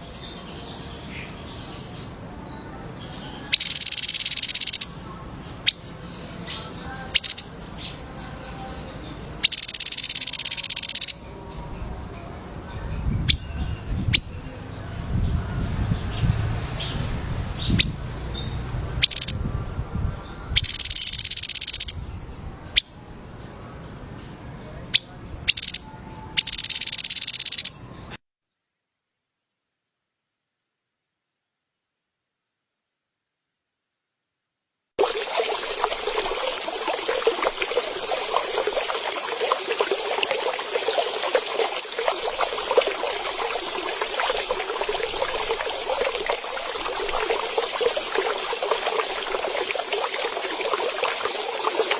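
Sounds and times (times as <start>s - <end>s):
songbird chirps and trills: 0.0s - 28.2s, 35.0s - 51.9s.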